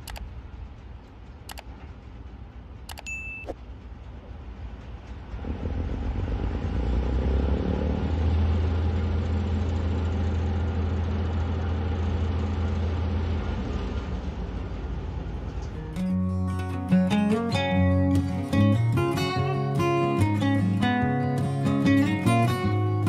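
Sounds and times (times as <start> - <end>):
diesel crane engine revving: 4.2 - 23.0.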